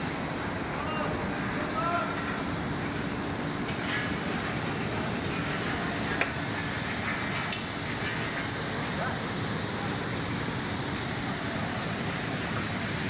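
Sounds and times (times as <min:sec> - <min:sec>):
aerated circulating water rushing: 0:00.0 - 0:13.0
machine mechanical hum: 0:00.0 - 0:13.0.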